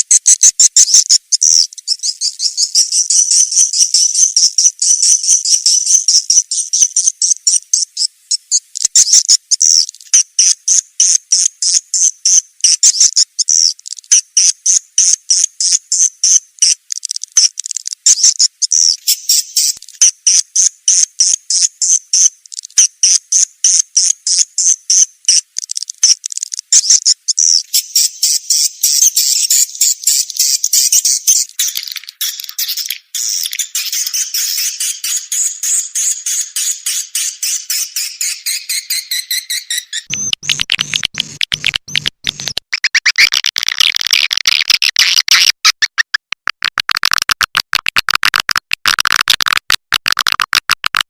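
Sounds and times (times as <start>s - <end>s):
buzzy bird chirps: 0.0s - 51.0s.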